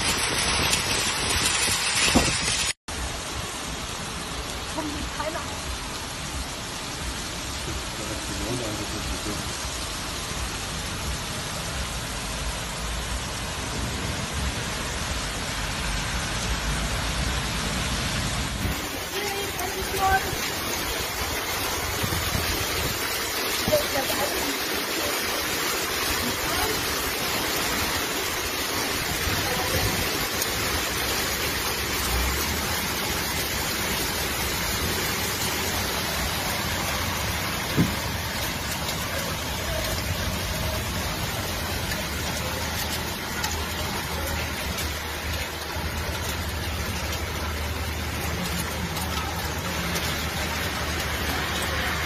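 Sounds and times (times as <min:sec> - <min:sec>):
heavy rain and rushing floodwater: 0:00.0 - 0:52.0.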